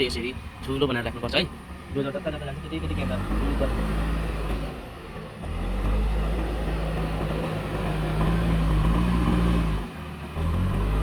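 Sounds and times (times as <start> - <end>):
heavy diesel engine under load: 0.0 - 11.0.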